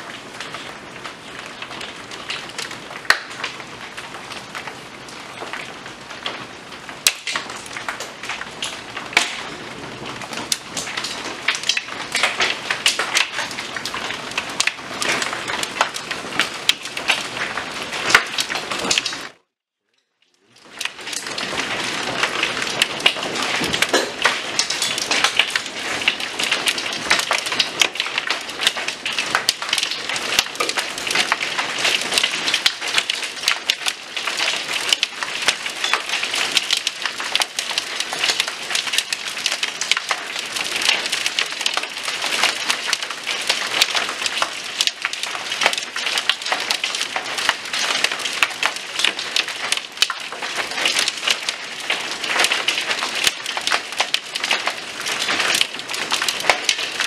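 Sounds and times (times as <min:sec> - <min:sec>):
hail and rain on wooden boards: 0:00.0 - 0:19.5, 0:20.4 - 0:57.0.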